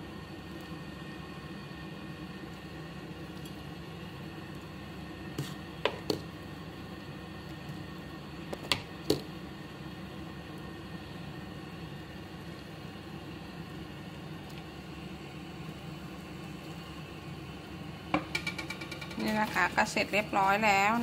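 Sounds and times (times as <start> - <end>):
broth simmering hiss: 0.0 - 21.0.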